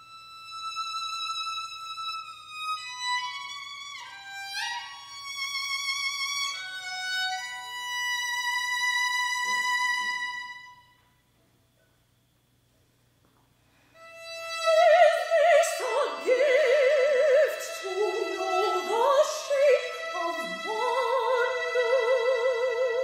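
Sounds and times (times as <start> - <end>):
solo violin playing: 0.0 - 11.0, 14.0 - 23.0.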